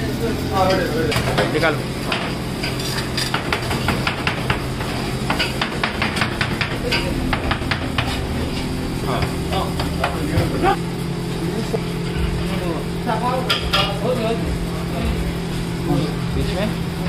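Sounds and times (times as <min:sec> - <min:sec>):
kitchen equipment hum: 0:00.0 - 0:17.0.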